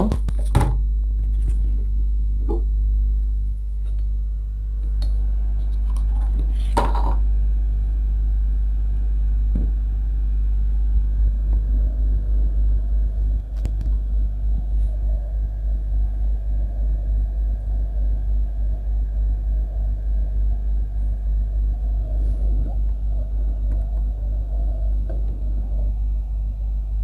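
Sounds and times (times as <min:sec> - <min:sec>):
hot air blower rumble: 0:03.7 - 0:27.0.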